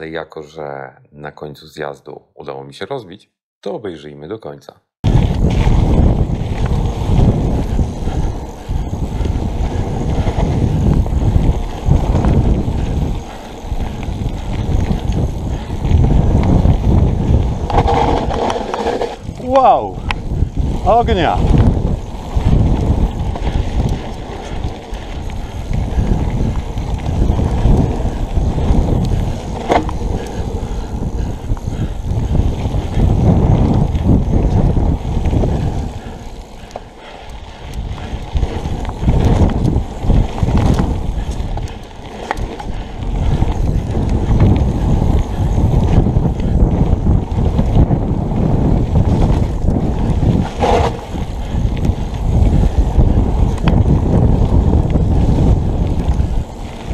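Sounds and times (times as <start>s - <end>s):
knobby tyres on ground: 5.0s - 56.9s
mountain bike rolling on dirt: 5.0s - 56.9s
wind buffeting microphone: 5.0s - 56.9s.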